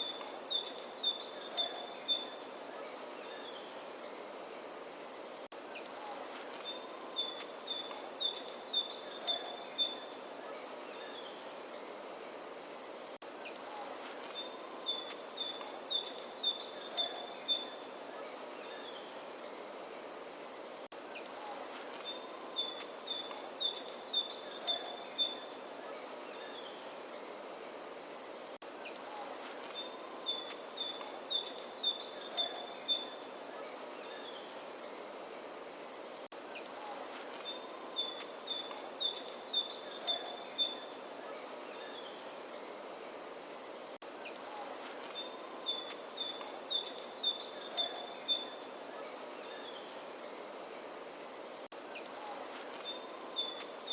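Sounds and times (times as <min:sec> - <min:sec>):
songbird singing: 0:00.0 - 0:53.9
steady outdoor hiss: 0:00.0 - 0:53.9.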